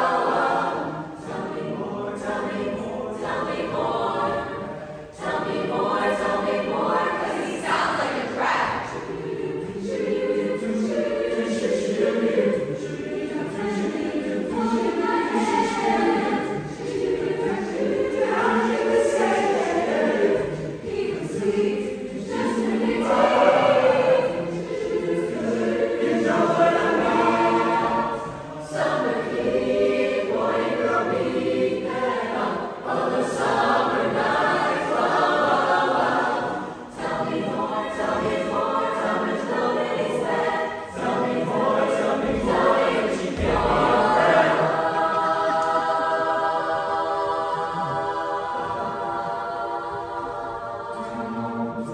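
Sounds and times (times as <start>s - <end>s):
choir singing in harmony: 0.0s - 51.9s.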